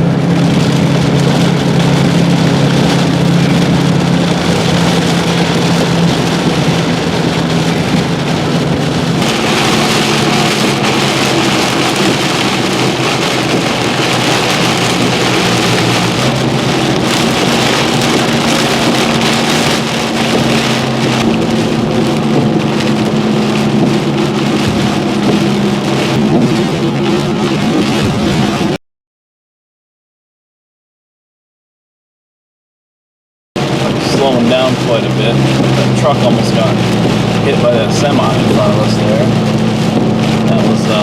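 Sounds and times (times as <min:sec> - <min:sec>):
heavy rain hitting a car: 0:00.0 - 0:28.8, 0:33.6 - 0:41.0
low engine and road hum: 0:00.0 - 0:28.8, 0:33.6 - 0:41.0.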